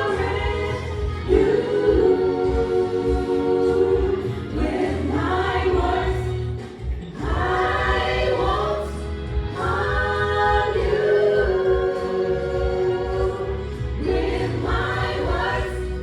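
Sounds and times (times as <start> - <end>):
gospel choir singing: 0.0 - 16.0.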